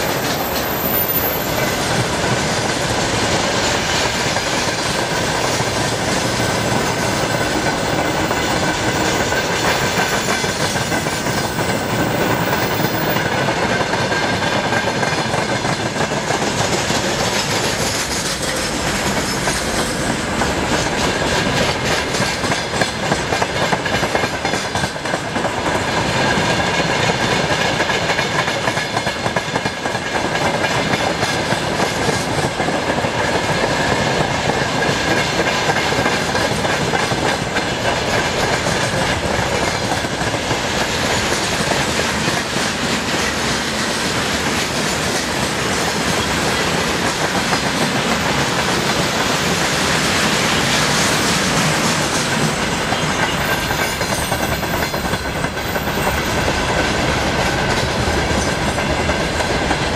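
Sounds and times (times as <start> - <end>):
train rumble: 0.0 - 59.9
train wheels clacking over rail joints: 0.0 - 59.9.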